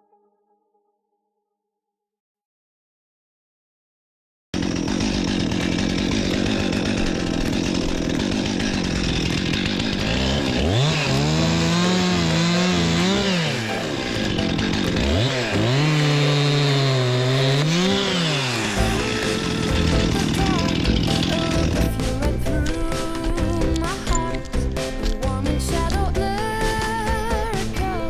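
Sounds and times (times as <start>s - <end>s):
chainsaw engine revving: 4.6s - 27.9s.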